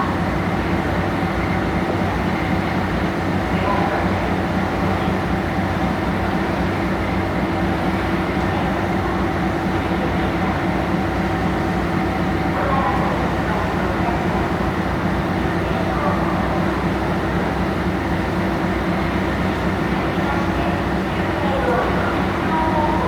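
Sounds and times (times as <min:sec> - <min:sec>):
ship diesel engines droning: 0:00.0 - 0:23.0.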